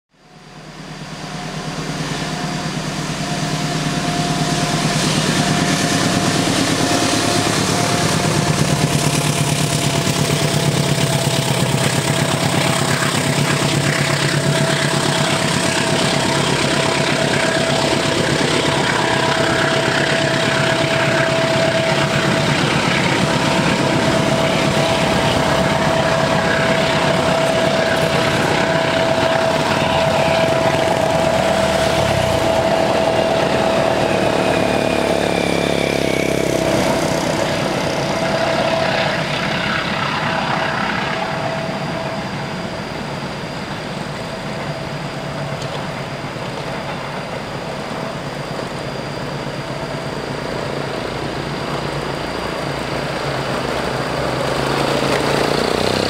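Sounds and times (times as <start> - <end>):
diesel locomotive engine: 0.1 - 56.0
steady high whine: 0.1 - 56.0
train coaches rolling: 0.4 - 56.0.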